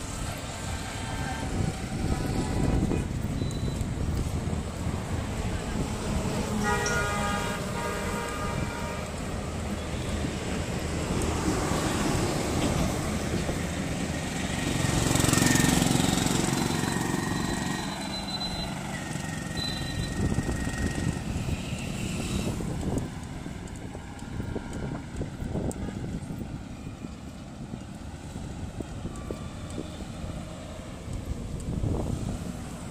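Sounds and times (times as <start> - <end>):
vehicle passing close by: 0.0 - 26.5
road traffic noise: 0.0 - 32.9.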